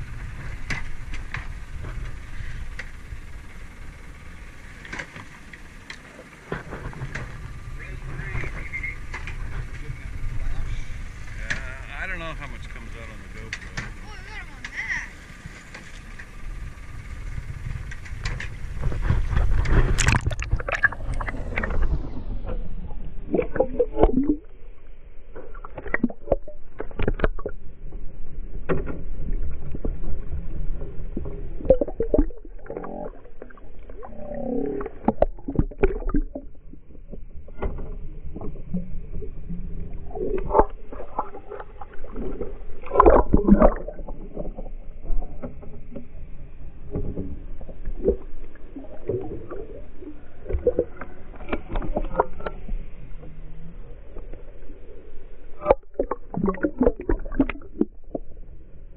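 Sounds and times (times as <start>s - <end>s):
boat engine rumble: 0.0s - 58.9s
muffled water rushing and splashing: 0.0s - 58.9s.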